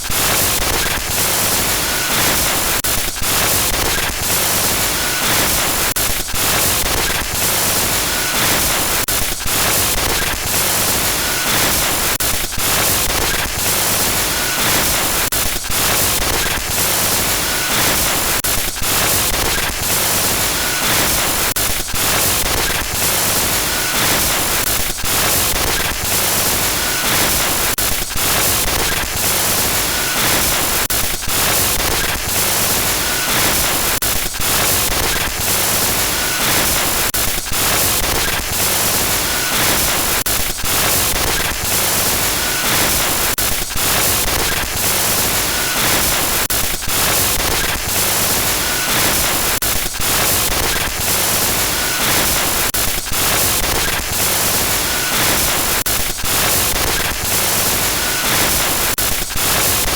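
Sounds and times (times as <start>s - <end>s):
harsh glitch static hiss: 0.1s - 59.9s.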